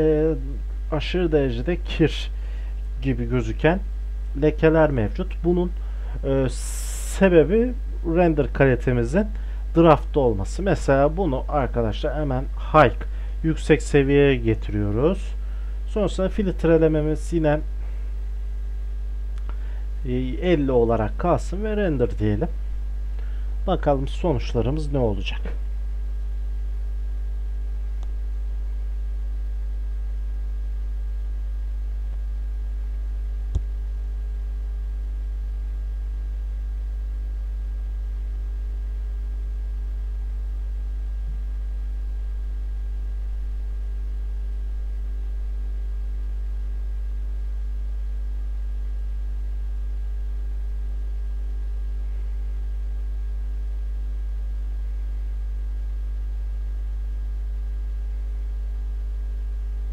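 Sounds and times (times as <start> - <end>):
electrical mains hum: 0.0 - 59.9
faint buzz: 0.0 - 59.9.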